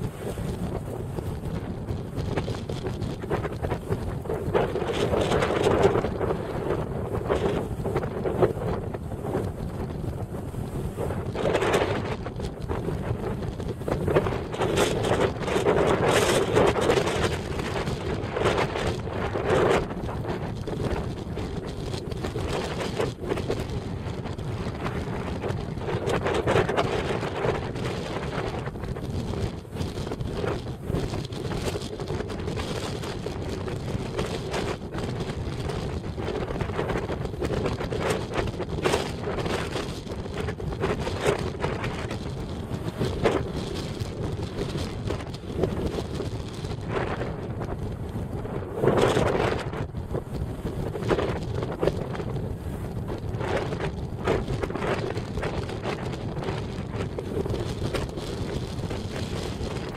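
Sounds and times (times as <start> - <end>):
strong wind buffeting microphone: 0.0 - 59.9.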